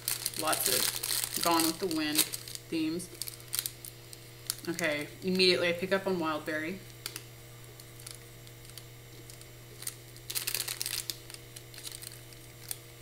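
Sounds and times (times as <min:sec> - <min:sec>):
packaging crinkling: 0:00.0 - 0:05.0, 0:06.8 - 0:13.0
steady low hum: 0:00.0 - 0:13.0.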